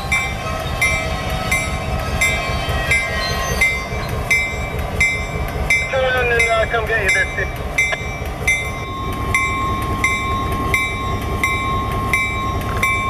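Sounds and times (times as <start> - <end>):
diesel locomotive rumbling: 0.0 - 13.0
locomotive bell ringing: 0.0 - 13.0.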